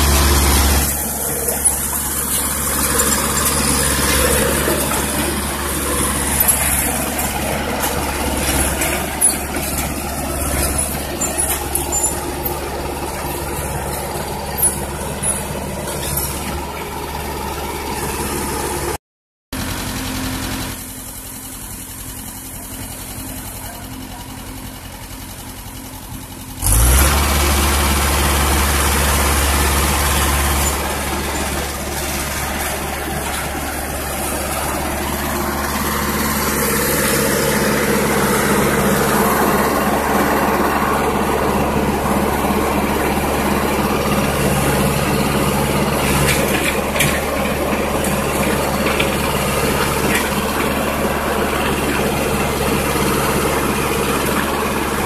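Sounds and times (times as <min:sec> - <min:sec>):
excavator diesel engine running: 0:00.0 - 0:19.0, 0:19.6 - 0:55.0.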